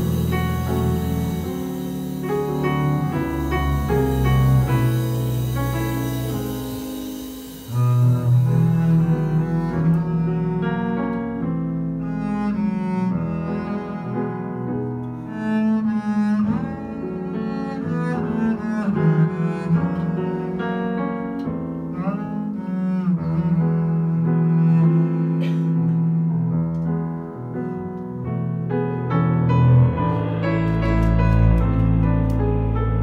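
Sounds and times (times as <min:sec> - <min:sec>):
bowed double bass: 0:00.0 - 0:33.0
jazz piano: 0:00.0 - 0:33.0.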